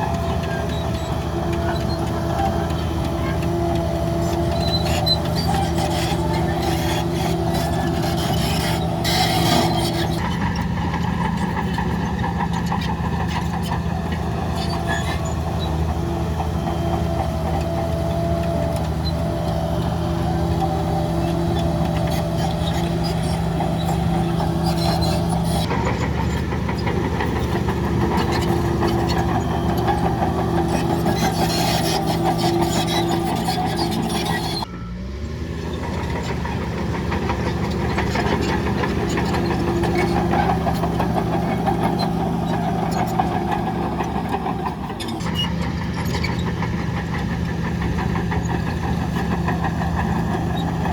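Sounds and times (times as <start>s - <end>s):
heavy diesel machinery running: 0.0s - 50.9s.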